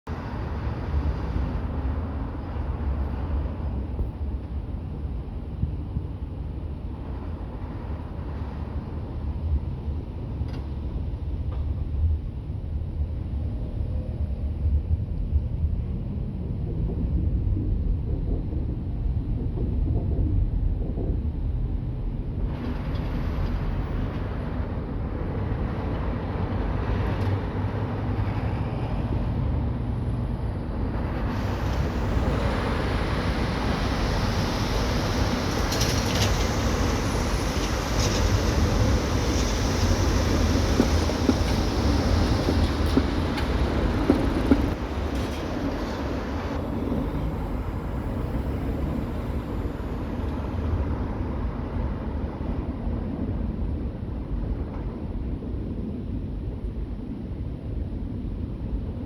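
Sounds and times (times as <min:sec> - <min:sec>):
traffic rumble: 0:00.1 - 0:59.0
wind buffeting microphone: 0:00.1 - 0:59.0.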